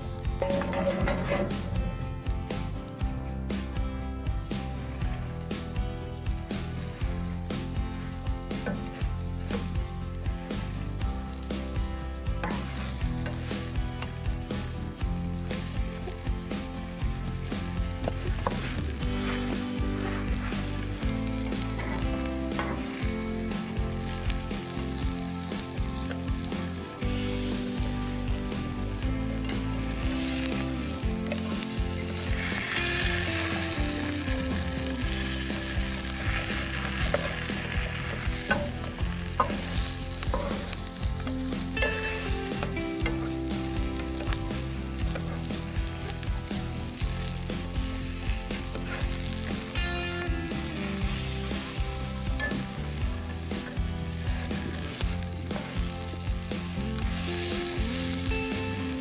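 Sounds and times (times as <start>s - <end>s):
tortilla sizzling in oil: 0.0s - 59.0s.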